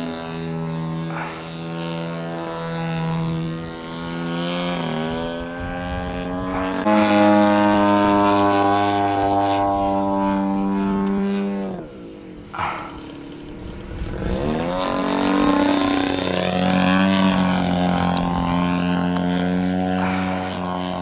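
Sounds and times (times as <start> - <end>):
model airplane engine and propeller: 0.0 - 21.0.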